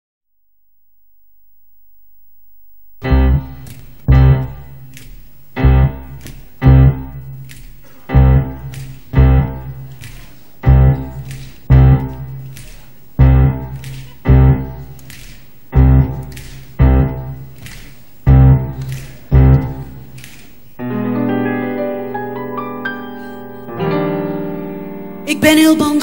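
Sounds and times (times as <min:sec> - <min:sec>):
piano chords: 0:03.0 - 0:26.0.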